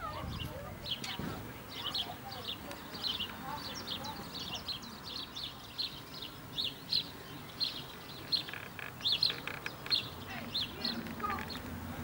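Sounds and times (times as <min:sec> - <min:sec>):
faint outdoor background noise: 0:00.0 - 0:12.0
songbirds chirping: 0:00.0 - 0:12.0.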